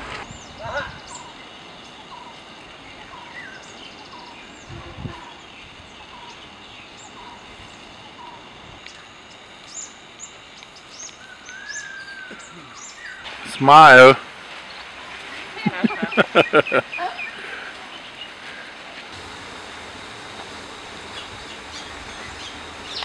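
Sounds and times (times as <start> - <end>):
birds chirping: 0.0 - 23.0
outdoor ambience hiss: 0.0 - 23.0.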